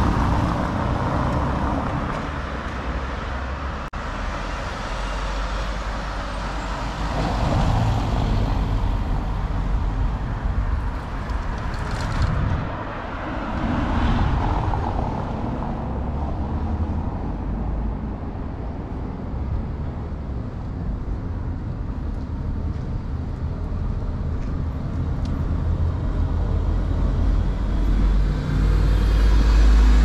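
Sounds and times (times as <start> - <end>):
cars driving by: 0.0 - 30.0
low traffic rumble: 0.0 - 30.0.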